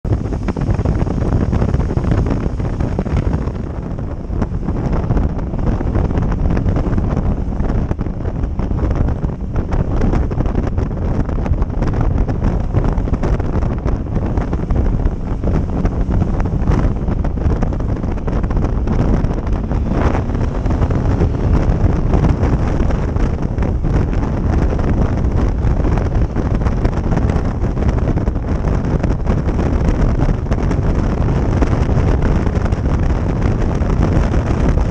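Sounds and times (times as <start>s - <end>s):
motorcycle engine running: 0.0s - 34.9s
wind buffeting microphone: 0.0s - 34.9s.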